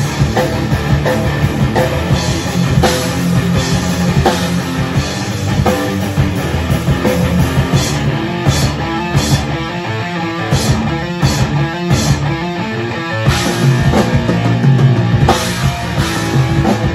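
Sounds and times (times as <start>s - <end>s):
drum kit: 0.0s - 16.9s
electric guitar: 0.0s - 16.9s.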